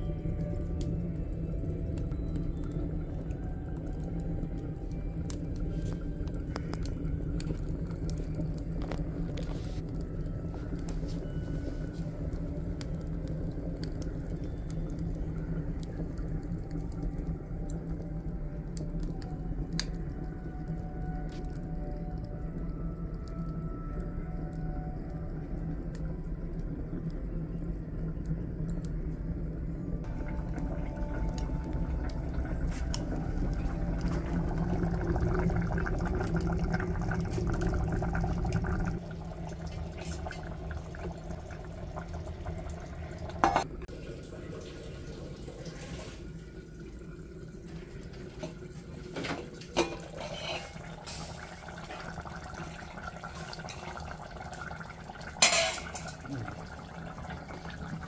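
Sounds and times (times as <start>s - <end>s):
wood fire rumbling: 0.0s - 58.0s
curry bubbling in a pot: 0.3s - 24.4s, 25.0s - 58.0s.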